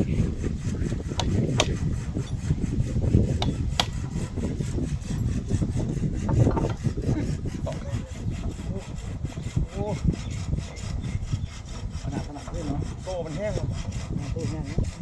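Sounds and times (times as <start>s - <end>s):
hand saw rasping through wood: 0.0s - 15.0s.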